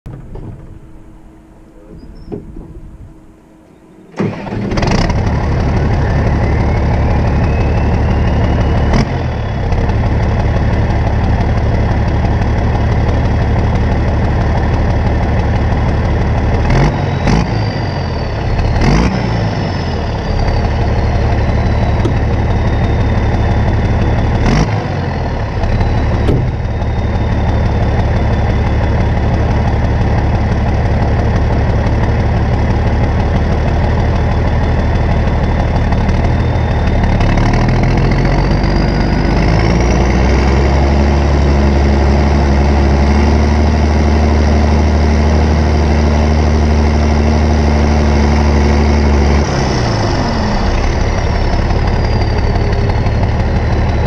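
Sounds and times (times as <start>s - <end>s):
diesel tractor engine idling: 0.1s - 54.0s
turbo whine: 0.1s - 54.0s.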